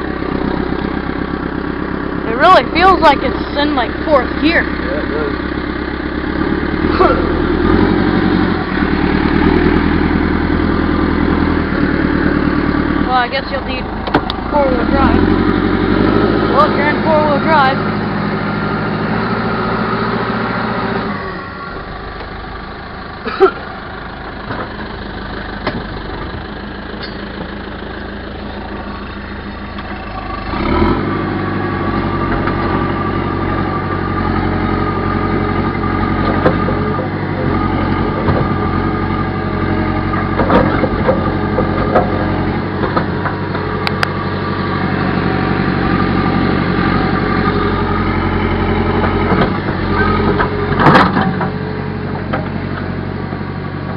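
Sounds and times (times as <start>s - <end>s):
backhoe engine running: 0.0s - 53.9s.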